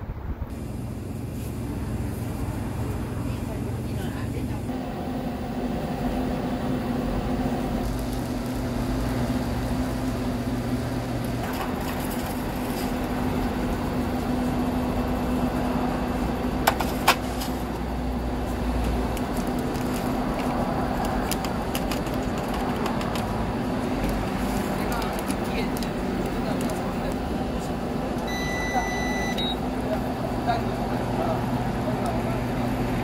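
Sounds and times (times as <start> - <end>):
steady machine hum: 0.0 - 33.0.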